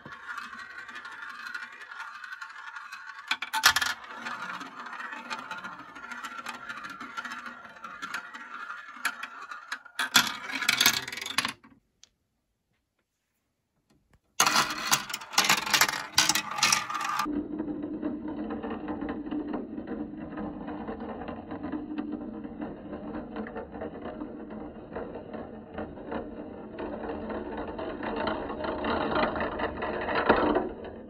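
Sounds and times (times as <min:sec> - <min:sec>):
marble clattering through tubes: 0:00.0 - 0:11.7, 0:14.4 - 0:31.0
marble rolling in plastic funnel: 0:00.0 - 0:11.8, 0:14.4 - 0:31.0.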